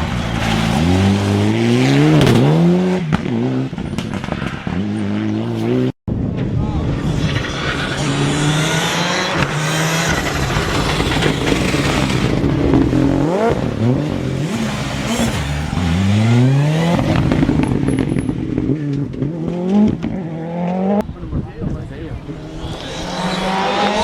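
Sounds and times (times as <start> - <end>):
car engine revving and accelerating: 0.0 - 3.8, 7.0 - 21.0, 22.2 - 24.0.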